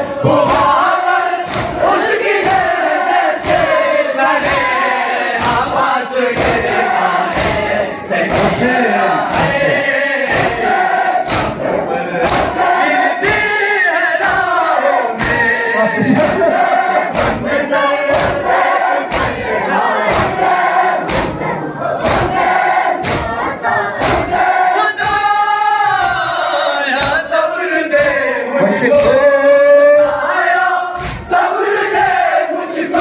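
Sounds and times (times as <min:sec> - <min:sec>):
crowd beating chests: 0:00.0 - 0:33.0
men chanting through microphone: 0:00.0 - 0:33.0.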